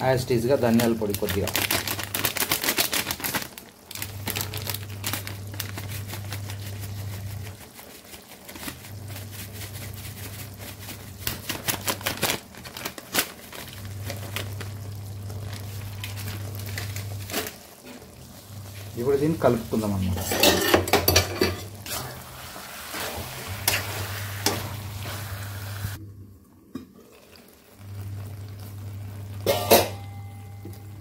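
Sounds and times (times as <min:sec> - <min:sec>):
curry crackling and spattering: 0:00.2 - 0:25.2.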